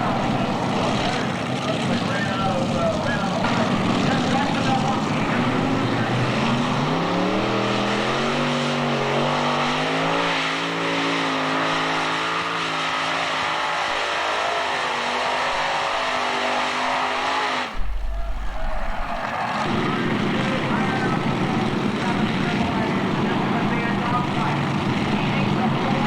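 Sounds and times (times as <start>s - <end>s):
tractor engine revving hard: 0.0s - 26.0s.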